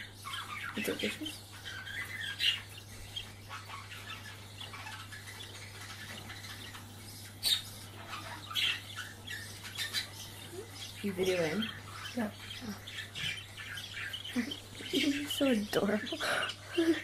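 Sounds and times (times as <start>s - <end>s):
budgerigar chick calling: 0.2s - 16.6s.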